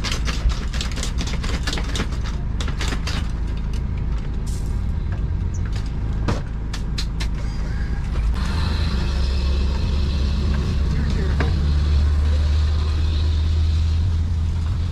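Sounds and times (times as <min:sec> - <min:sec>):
low motor rumble: 0:00.6 - 0:14.9.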